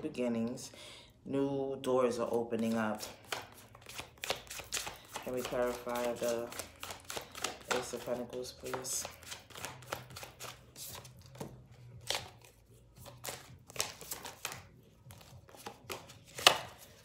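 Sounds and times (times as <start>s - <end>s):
cards being shuffled: 2.2s - 17.0s.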